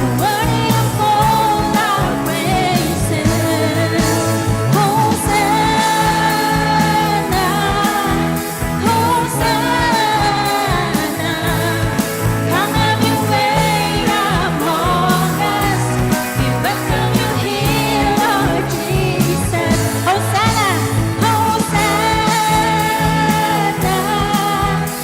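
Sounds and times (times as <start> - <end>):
voices singing long notes: 0.0 - 25.0
worship band playing: 0.0 - 25.0.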